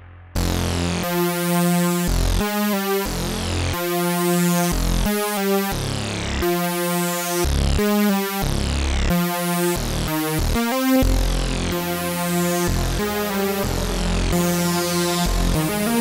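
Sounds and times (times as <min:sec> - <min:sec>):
synth chords over bass: 0:00.0 - 0:16.0.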